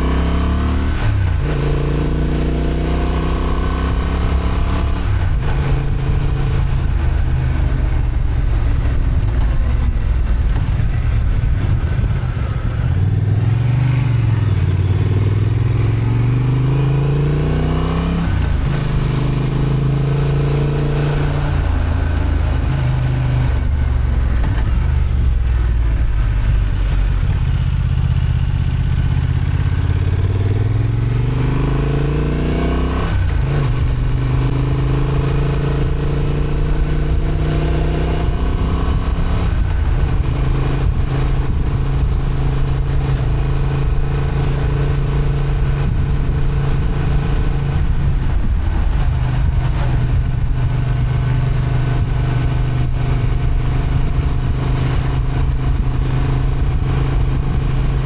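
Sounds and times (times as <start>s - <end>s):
motorcycle engine revving: 0.0s - 58.0s
steady rushing noise: 3.9s - 17.4s, 18.0s - 32.2s, 33.0s - 58.0s.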